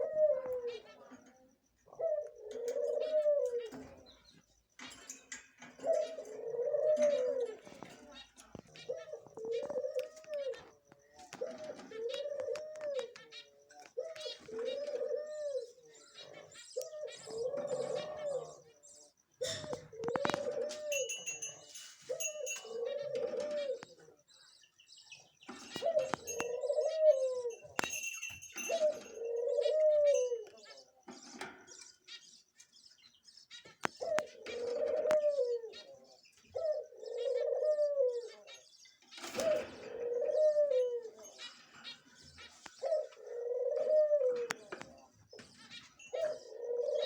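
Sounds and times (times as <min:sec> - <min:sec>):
bird cooing: 0:00.0 - 0:32.1, 0:33.0 - 0:47.0.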